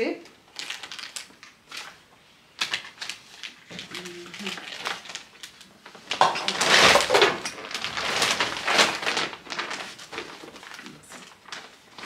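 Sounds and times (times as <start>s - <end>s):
plastic bag rustling and crinkling: 0.4s - 12.0s.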